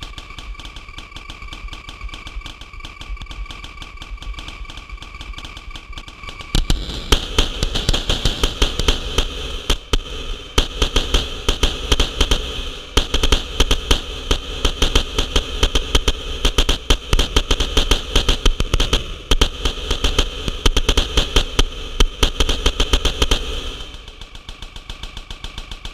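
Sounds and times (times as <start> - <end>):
electronic glitch clicks and crackles: 0.0 - 25.9
low electronic pulse: 0.0 - 25.9.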